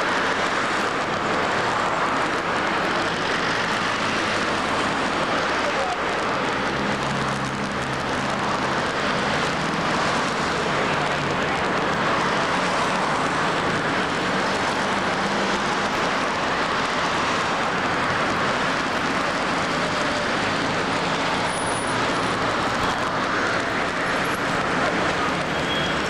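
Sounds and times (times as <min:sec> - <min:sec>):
traffic rushing: 0:00.0 - 0:26.0.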